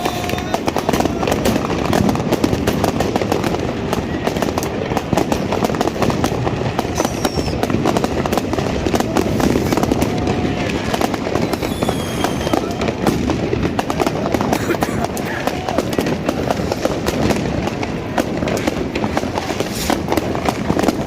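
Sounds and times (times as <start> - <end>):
firecrackers crackling and banging: 0.0 - 21.0
whistling rockets: 0.0 - 21.0.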